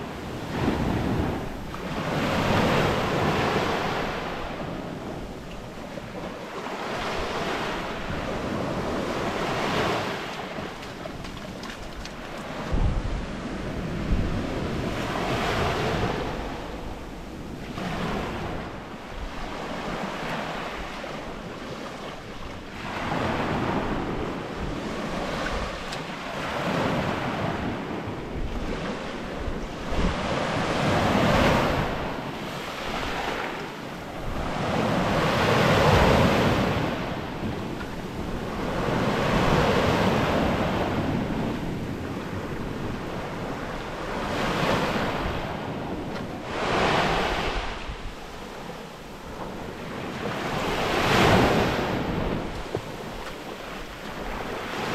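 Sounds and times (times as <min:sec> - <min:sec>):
ocean waves breaking: 0:00.0 - 0:54.9
wind on microphone: 0:00.0 - 0:54.9.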